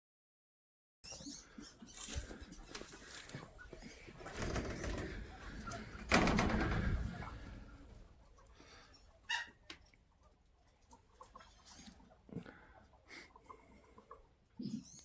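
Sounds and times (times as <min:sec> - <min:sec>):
doves cooing: 0:01.1 - 0:15.0.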